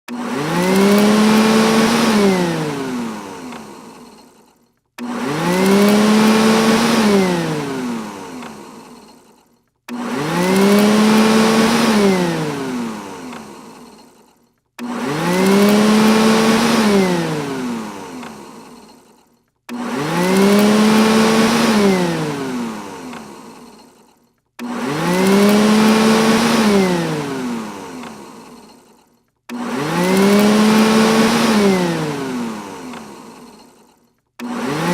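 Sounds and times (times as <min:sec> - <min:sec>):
vacuum motor whine: 0:00.1 - 0:34.9.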